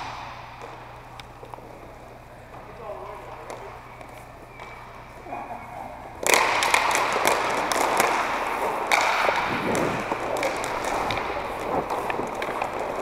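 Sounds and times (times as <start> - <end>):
skate wheels rolling and scraping: 0.0 - 13.0
sticks and puck clacking: 0.0 - 13.0.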